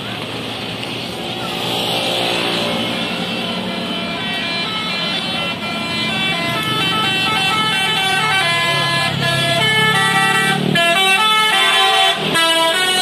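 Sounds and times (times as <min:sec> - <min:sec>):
bus engine running: 0:00.0 - 0:13.0
multi-tone bus horn tune: 0:02.6 - 0:13.0.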